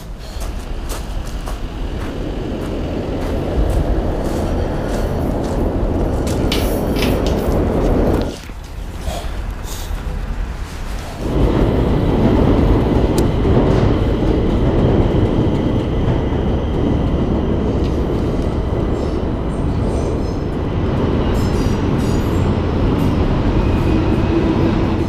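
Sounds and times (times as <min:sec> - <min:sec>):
train rumbling over rail bridge: 0:00.0 - 0:25.0.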